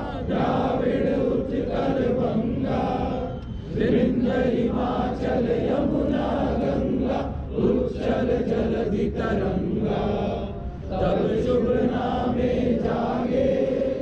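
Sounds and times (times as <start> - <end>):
crowd chanting in unison: 0.0 - 14.0.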